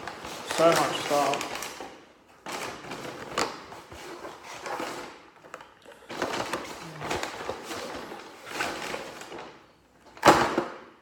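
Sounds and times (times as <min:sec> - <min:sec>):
packaging rustling and knocking: 0:00.0 - 0:11.0.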